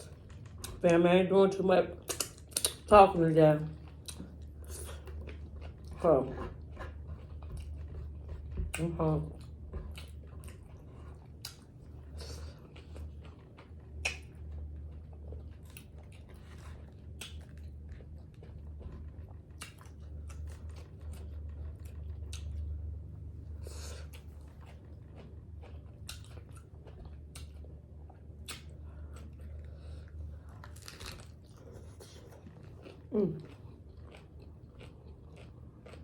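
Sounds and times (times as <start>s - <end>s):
person chewing crunchy food: 0.0s - 0.8s, 2.0s - 2.9s, 3.8s - 36.0s
steady low hum: 0.0s - 36.0s.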